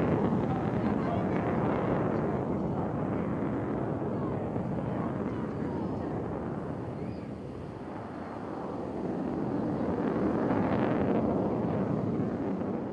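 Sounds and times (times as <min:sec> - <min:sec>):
jet flying overhead: 0:00.0 - 0:12.9.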